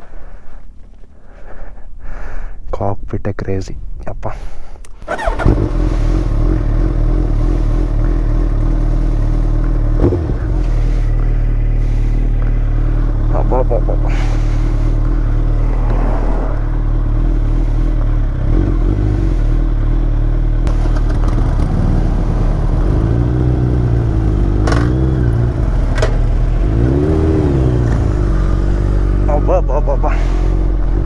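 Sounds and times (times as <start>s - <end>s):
motorcycle engine revving: 5.0s - 31.0s.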